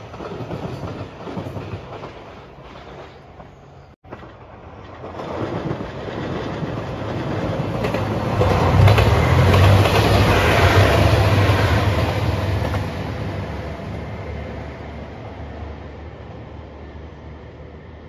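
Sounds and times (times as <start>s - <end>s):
train wheels on rails: 0.0s - 16.8s
diesel train passing: 0.0s - 18.0s.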